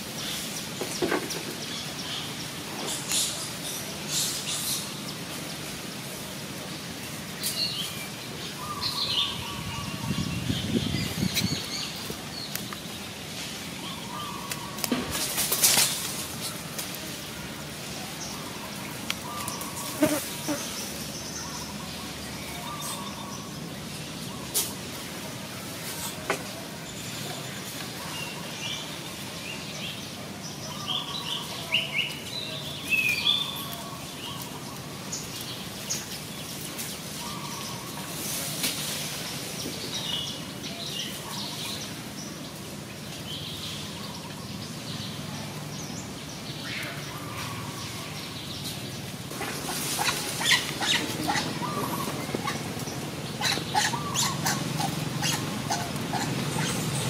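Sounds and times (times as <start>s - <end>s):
small birds chirping: 0.0s - 25.0s, 25.8s - 57.0s.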